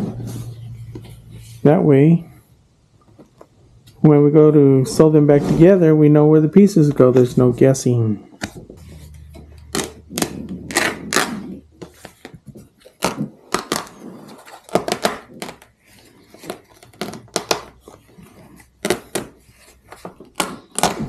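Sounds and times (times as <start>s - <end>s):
vinyl rustling: 0.0s - 21.0s.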